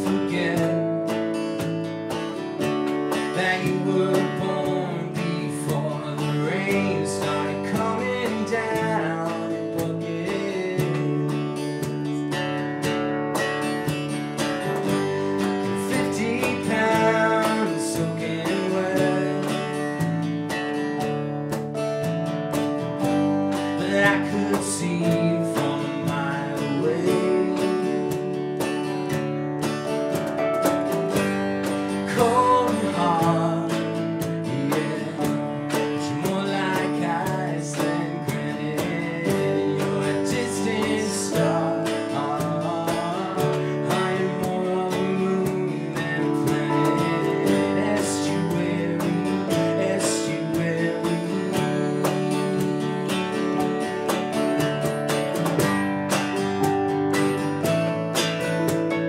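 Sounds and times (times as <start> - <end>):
keyboard chords: 0.0 - 59.0
strummed acoustic guitar: 0.0 - 59.0.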